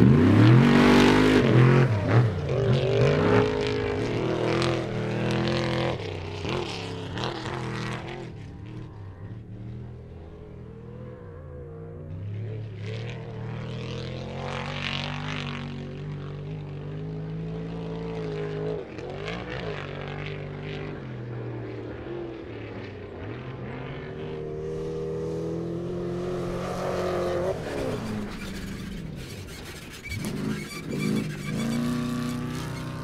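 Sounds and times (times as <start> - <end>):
race truck engines revving past: 0.0 - 10.0, 11.0 - 33.0.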